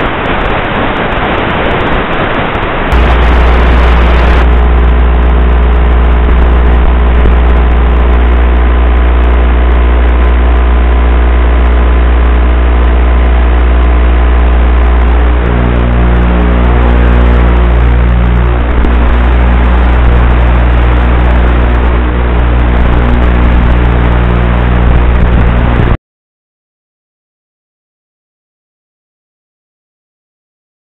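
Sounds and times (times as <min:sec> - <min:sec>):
electrical hum and hiss: 0:00.2 - 0:26.0.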